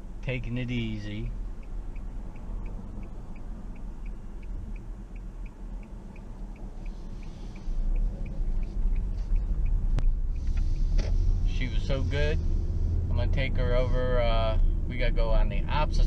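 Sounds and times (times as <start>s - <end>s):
car engine rumble: 0.0s - 16.0s
turn signal ticking: 0.0s - 16.0s.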